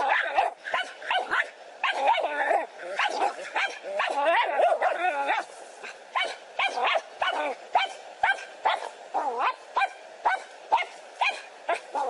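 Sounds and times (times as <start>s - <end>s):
small dog barking: 0.0s - 12.0s.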